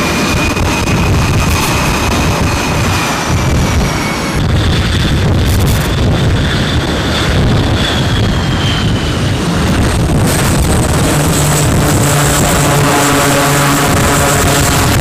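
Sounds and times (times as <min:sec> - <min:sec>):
jet engine high whine: 0:00.0 - 0:15.0
low engine hum: 0:00.0 - 0:15.0.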